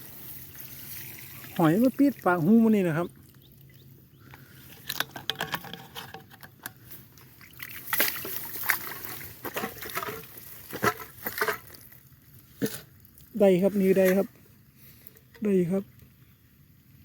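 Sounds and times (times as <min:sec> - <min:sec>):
water sloshing and splashing: 0:00.0 - 0:14.5.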